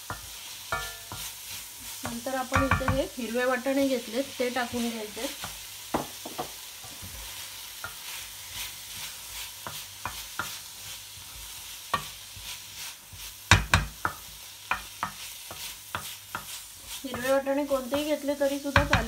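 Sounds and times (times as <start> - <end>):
food sizzling in pan: 0.0 - 19.0.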